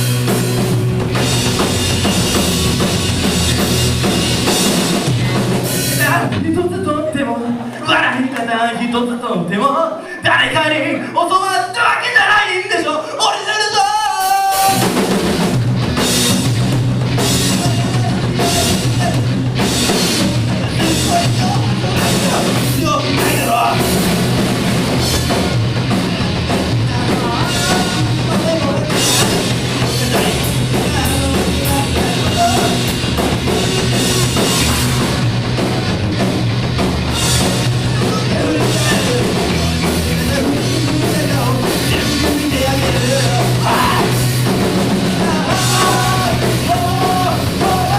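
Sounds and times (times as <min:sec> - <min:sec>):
rock band playing: 0:00.0 - 0:08.4, 0:09.9 - 0:47.9.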